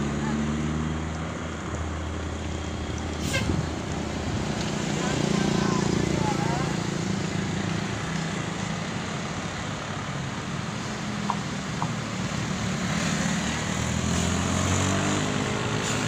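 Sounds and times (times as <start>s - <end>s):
cars and motorcycles on road: 0.0s - 16.0s
coach diesel engine passing: 0.0s - 16.0s.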